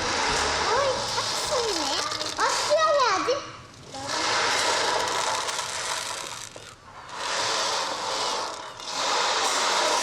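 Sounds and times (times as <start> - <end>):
ocean drum beads rolling: 0.0 - 2.7, 3.9 - 10.0.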